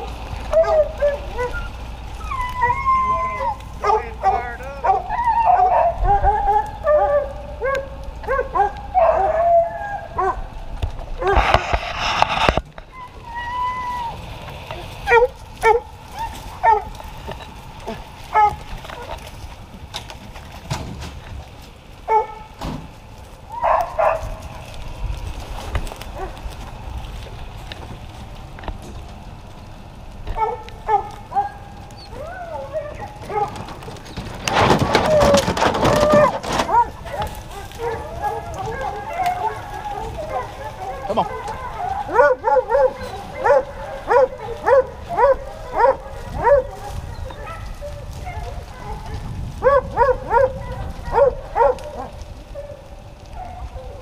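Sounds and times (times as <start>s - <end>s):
hounds barking: 0.0s - 19.4s, 22.0s - 22.6s, 23.5s - 24.8s, 25.8s - 26.6s, 30.3s - 54.0s.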